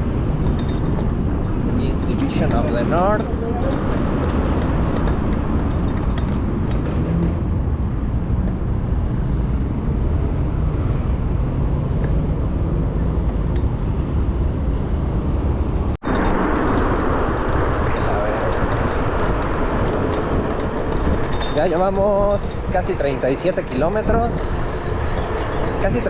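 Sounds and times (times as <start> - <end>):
road traffic noise: 0.0 - 26.0
wind on microphone: 0.0 - 26.0.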